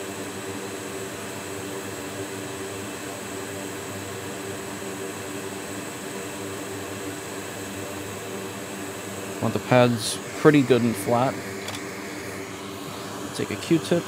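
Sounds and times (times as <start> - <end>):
fan blowing air: 0.0 - 14.0.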